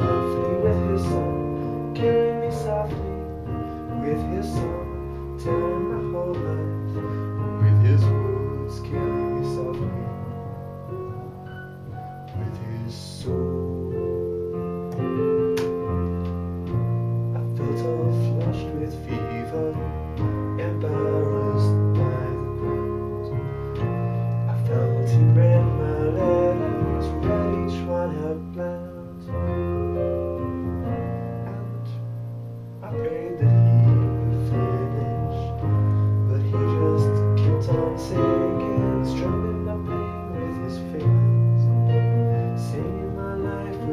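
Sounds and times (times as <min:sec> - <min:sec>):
low bass line: 0:00.0 - 0:43.9
piano chords: 0:00.0 - 0:43.9.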